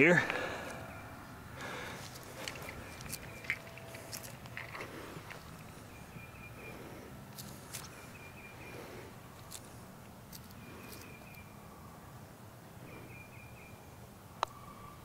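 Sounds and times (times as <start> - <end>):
faint bird song: 0.0 - 15.0.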